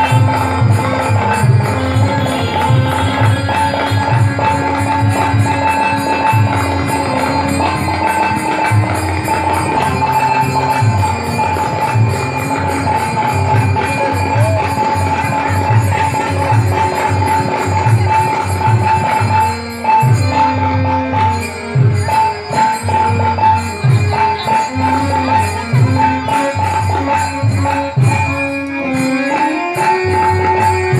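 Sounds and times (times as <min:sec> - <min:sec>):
held high note melody: 0:00.0 - 0:30.9
jingling hand percussion: 0:00.0 - 0:30.9.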